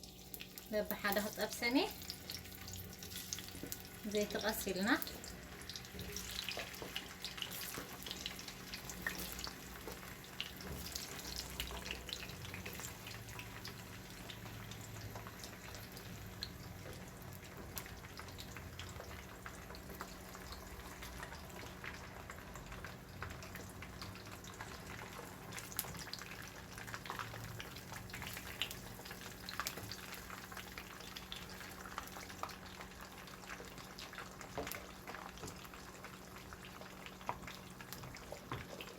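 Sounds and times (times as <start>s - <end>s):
vegetables sizzling in a pan: 0.0s - 38.9s.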